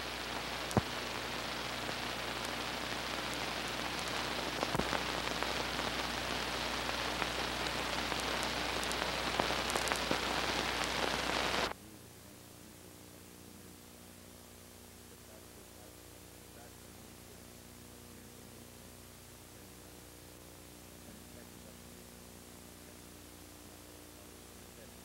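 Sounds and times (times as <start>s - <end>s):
faint low hum: 0.0s - 25.0s
film soundtrack hiss and crackle: 0.0s - 25.0s.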